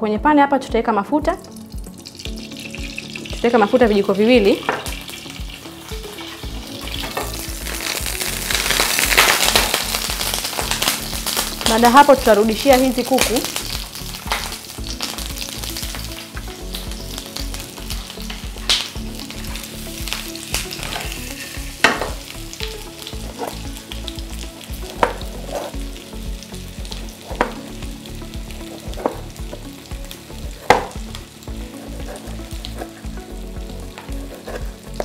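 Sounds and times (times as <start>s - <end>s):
chicken sizzling in oil: 1.3s - 35.0s.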